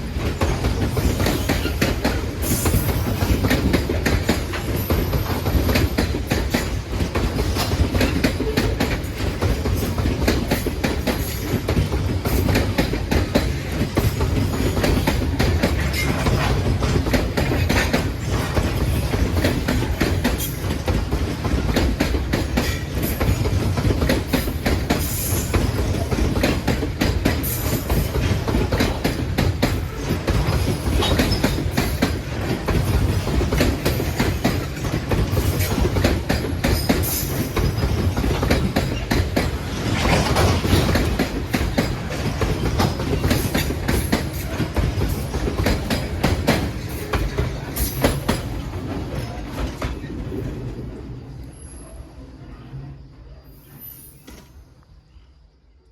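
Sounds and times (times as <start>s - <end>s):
train wheels clattering on rails: 0.0s - 51.1s.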